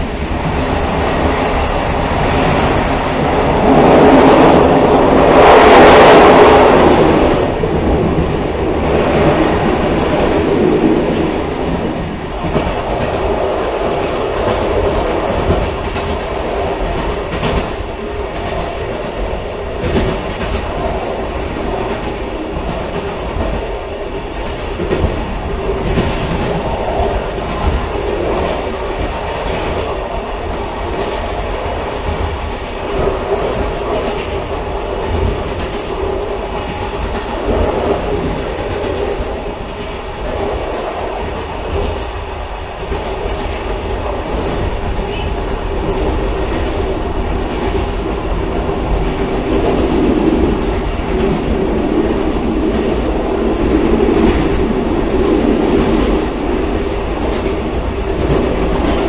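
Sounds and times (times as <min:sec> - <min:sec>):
railcar rumbling on track: 0:00.0 - 0:59.0.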